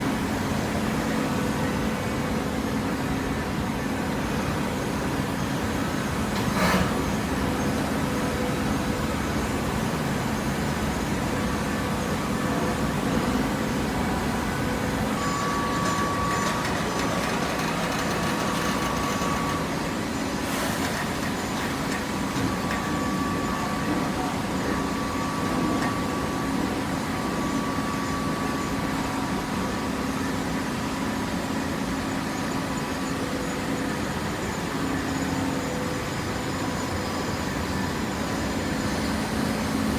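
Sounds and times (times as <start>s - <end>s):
electric motor and pump humming: 4.0s - 39.9s.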